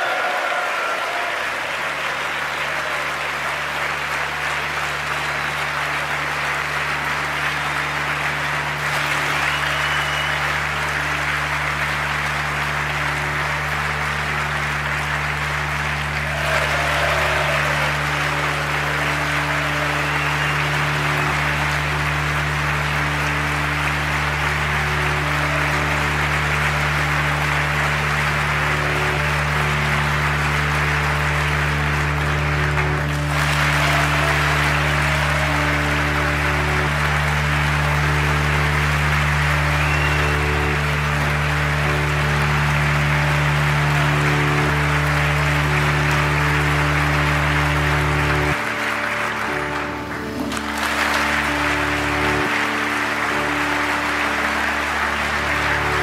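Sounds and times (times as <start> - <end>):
audience applauding: 0.0 - 56.0
slow ambient music: 0.0 - 56.0.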